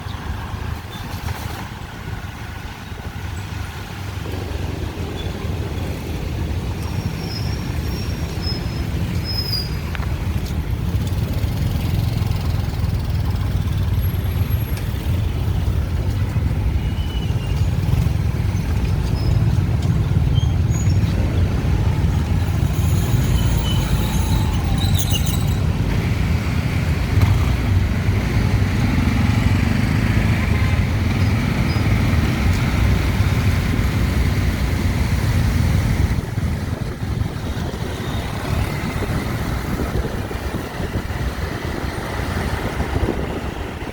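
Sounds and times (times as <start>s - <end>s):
dense city traffic rumble: 0.0s - 43.9s.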